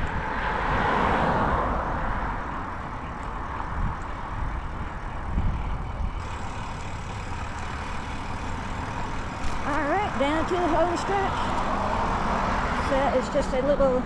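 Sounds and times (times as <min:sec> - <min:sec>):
low traffic rumble: 0:00.0 - 0:14.0
vehicle passing: 0:00.0 - 0:14.0.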